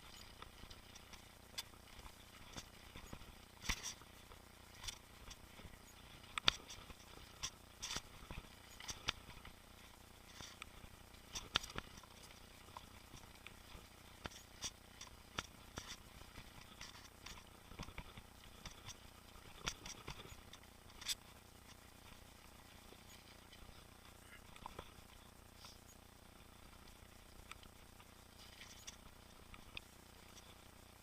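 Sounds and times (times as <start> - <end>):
bike clicks and rattles: 0.0 - 22.2, 22.9 - 25.4, 26.7 - 30.8.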